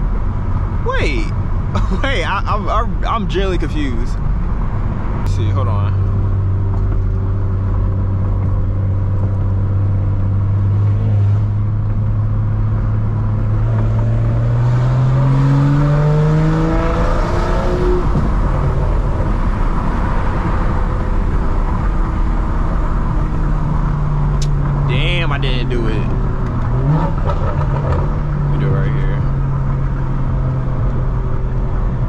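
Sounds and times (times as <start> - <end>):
car engine accelerating: 0.6 - 32.0.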